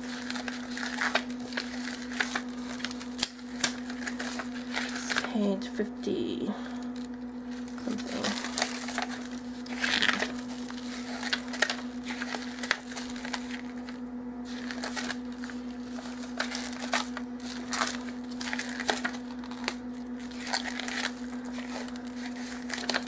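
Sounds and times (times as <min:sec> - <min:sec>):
paper pages rustling: 0:00.0 - 0:05.4, 0:06.9 - 0:23.0
steady low hum: 0:00.0 - 0:23.0.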